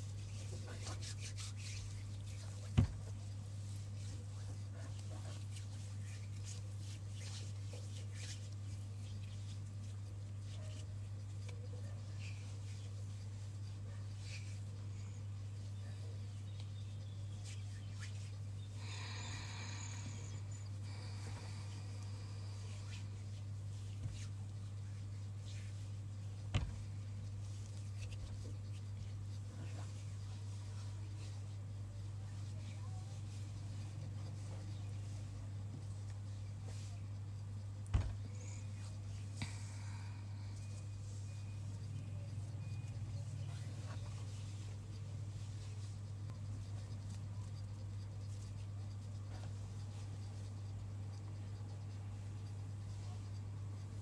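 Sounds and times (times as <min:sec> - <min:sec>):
hands rustling near microphone: 0:00.0 - 0:54.0
low electrical hum: 0:00.0 - 0:54.0.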